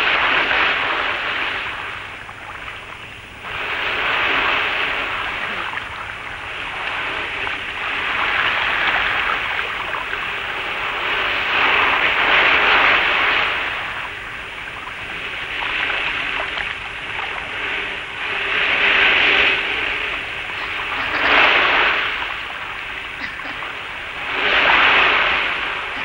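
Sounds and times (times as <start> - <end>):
waves washing onto shore: 0.0 - 26.0.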